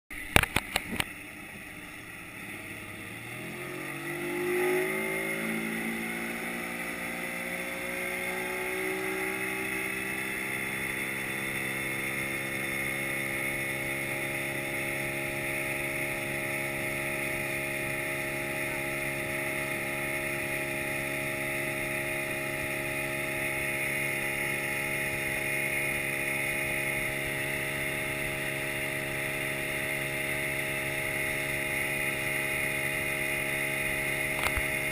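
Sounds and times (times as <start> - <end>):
outboard motor throttling up: 0.1 - 34.9.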